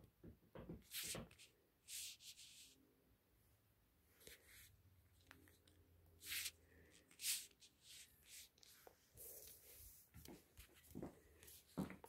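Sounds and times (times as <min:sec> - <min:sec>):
faint rustling and rubbing: 0:00.7 - 0:02.8, 0:04.1 - 0:12.0.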